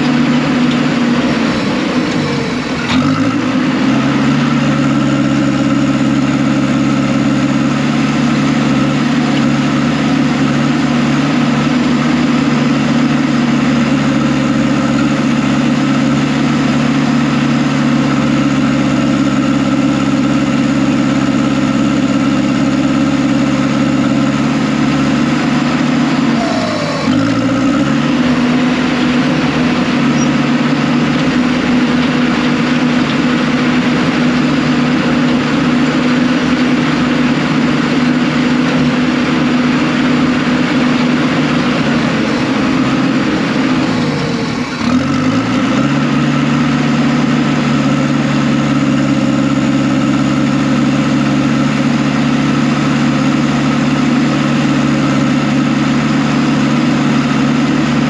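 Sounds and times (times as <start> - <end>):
heavy machine diesel engine running: 0.0 - 58.0.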